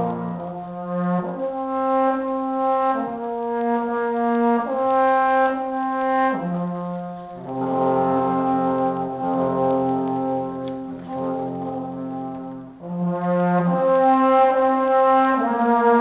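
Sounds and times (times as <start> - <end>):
trombone ensemble chords: 0.0 - 16.0.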